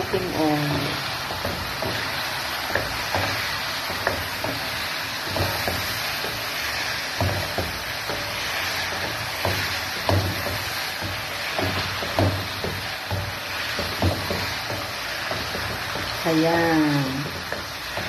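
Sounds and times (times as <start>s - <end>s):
oil sizzling in a metal pan: 0.0s - 18.0s
wooden spatula knocking pan: 0.0s - 18.0s.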